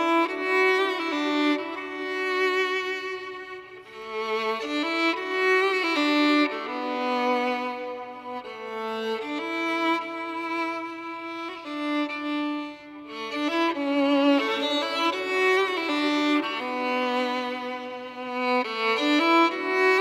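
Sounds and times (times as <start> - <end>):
violin playing slow folk melody: 0.0 - 20.0.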